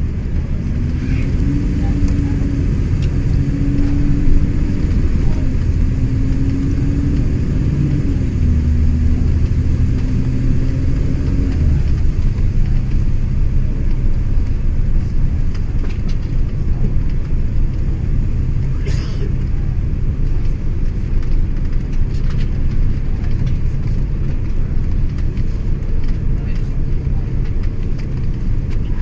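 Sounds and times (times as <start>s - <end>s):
bus engine: 0.0s - 29.0s
road rumble: 0.0s - 29.0s.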